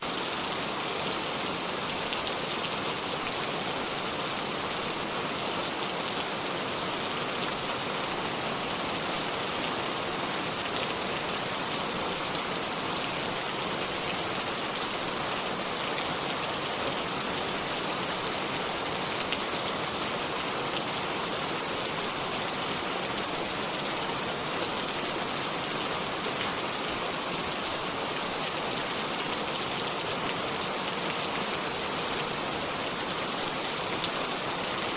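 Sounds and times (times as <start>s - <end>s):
steady rainfall: 0.0s - 34.9s.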